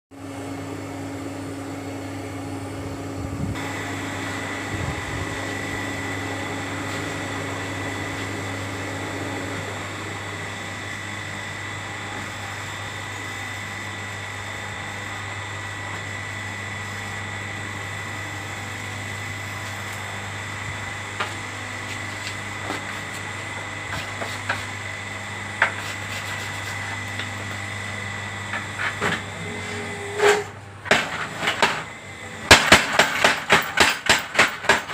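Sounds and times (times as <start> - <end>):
high motor whine: 0.2 - 33.7
electric motor humming: 0.3 - 33.4.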